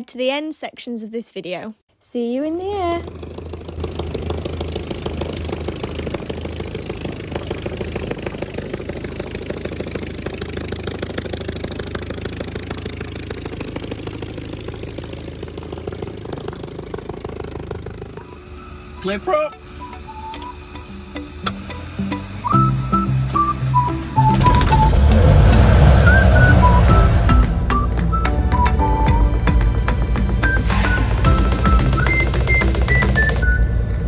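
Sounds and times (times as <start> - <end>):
biplane engine ticking over: 2.5 - 34.0.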